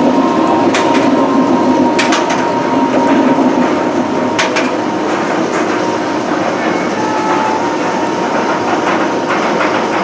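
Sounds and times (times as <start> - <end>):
roller coaster train rumbling: 0.0 - 10.0.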